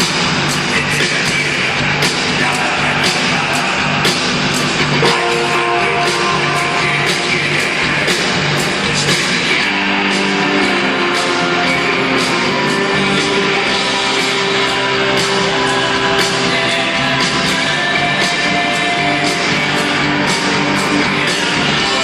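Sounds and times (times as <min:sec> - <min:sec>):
drum beat: 0:00.0 - 0:22.0
guitar: 0:00.0 - 0:22.0
rock band playing: 0:00.0 - 0:22.0.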